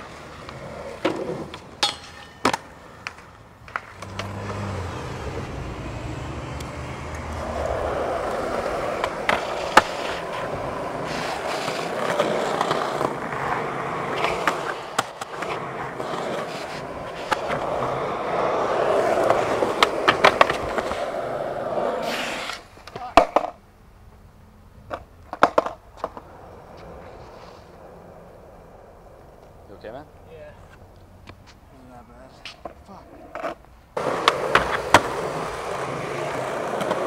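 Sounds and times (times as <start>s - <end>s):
skateboard clacks: 0.0s - 5.5s, 6.5s - 23.6s, 24.8s - 28.2s, 32.3s - 37.0s
skateboard wheels rolling on pavement: 0.0s - 37.0s.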